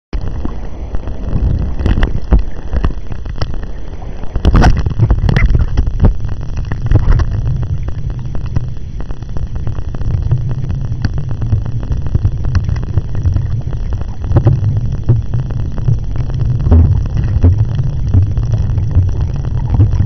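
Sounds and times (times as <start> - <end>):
muffled underwater rumble: 0.1 - 20.0.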